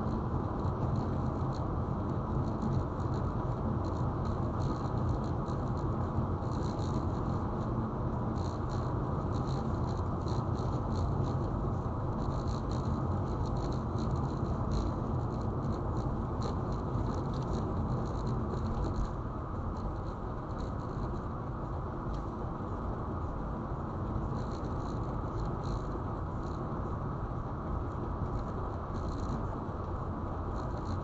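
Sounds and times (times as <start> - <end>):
light irregular ticks: 0.0 - 22.8, 24.0 - 26.8, 27.7 - 31.0
car road and tyre rumble: 0.1 - 31.0.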